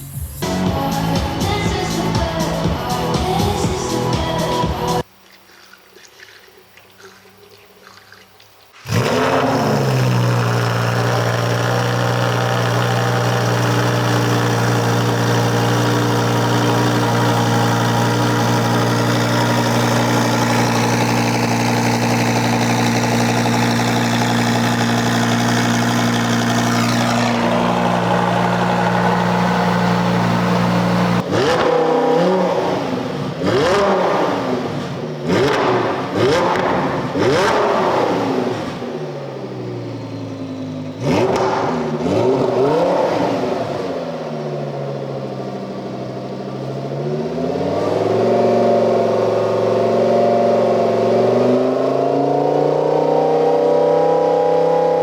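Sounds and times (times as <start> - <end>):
sports car engine revving and idling: 8.8 - 55.0.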